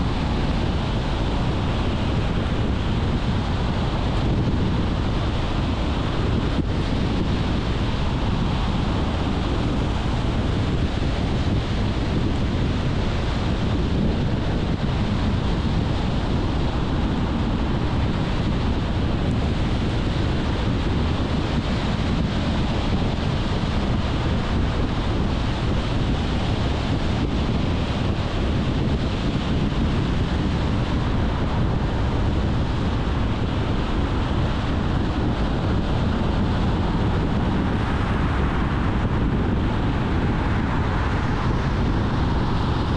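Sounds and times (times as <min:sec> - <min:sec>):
car tyre road roar: 0:00.0 - 0:42.9
wind noise on microphone: 0:00.0 - 0:42.9.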